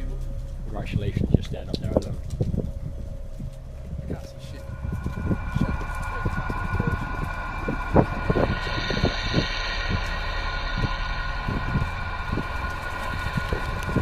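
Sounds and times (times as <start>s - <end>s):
low rumble: 0.0s - 14.0s
steady tonal whine: 0.0s - 14.0s.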